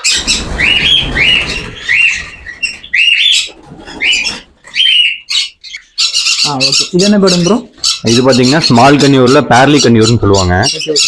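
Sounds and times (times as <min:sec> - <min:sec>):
parrots calling shrilly: 0:00.0 - 0:11.0.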